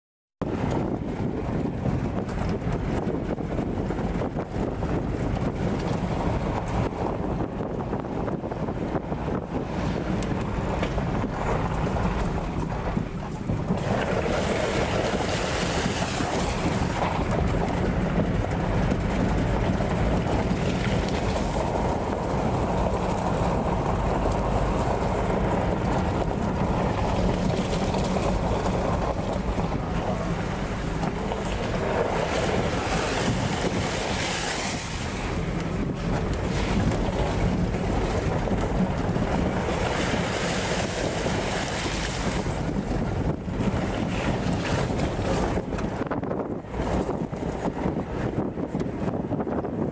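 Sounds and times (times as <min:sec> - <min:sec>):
vehicle road and engine rumble: 0:00.4 - 0:49.9
wind noise on microphone: 0:00.4 - 0:49.9.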